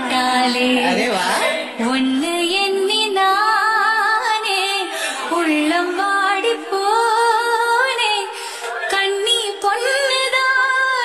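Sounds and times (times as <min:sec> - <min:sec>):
woman singing with vibrato: 0:00.0 - 0:11.0.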